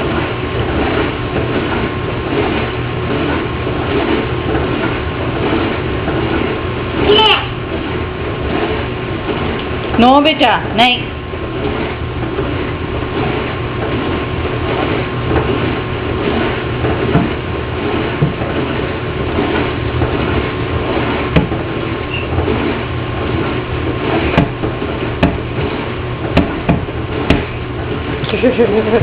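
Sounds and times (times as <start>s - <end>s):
dishwasher spraying water: 0.0s - 29.0s.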